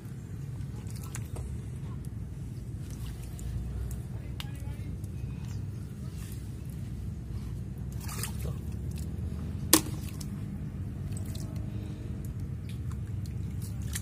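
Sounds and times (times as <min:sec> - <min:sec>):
hands squelching in mud and water: 0:00.0 - 0:14.0.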